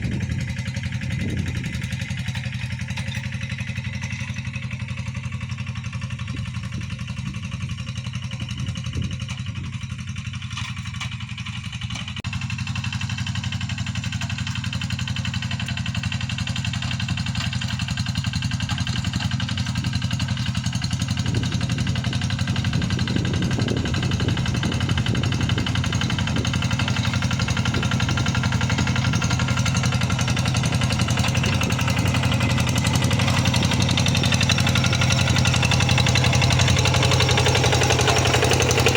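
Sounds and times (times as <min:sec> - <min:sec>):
tractor engine chugging: 0:00.0 - 0:38.9.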